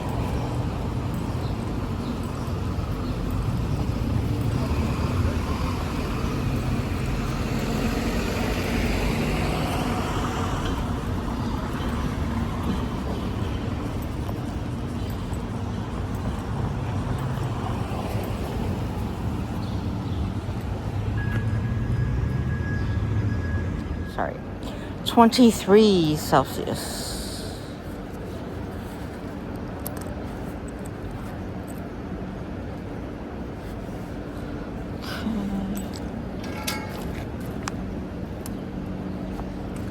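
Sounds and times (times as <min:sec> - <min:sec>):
street traffic rumble: 0:00.0 - 0:39.9.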